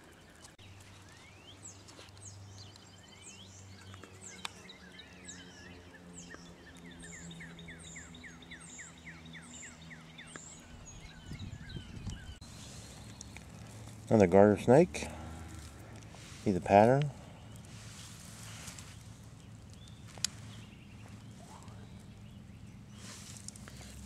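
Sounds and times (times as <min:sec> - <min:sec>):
birds singing: 0:00.0 - 0:24.0.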